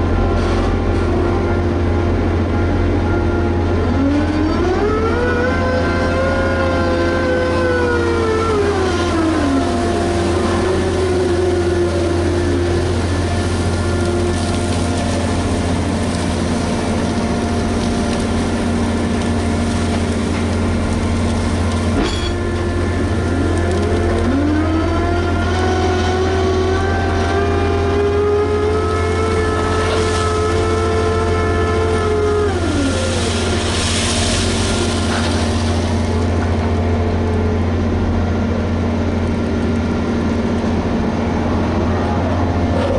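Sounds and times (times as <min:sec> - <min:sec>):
diesel engine under load: 0:00.0 - 0:42.9
machine whining tone: 0:00.0 - 0:42.9.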